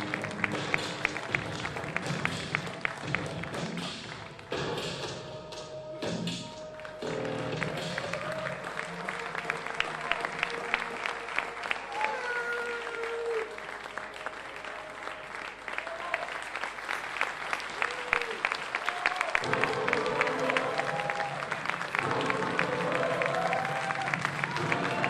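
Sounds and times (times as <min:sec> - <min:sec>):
audience applauding: 0:00.0 - 0:04.9, 0:06.6 - 0:25.0.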